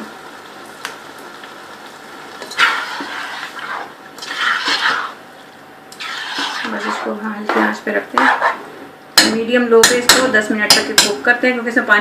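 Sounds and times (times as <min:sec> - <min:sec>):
pot bubbling on stove: 0:00.0 - 0:11.2.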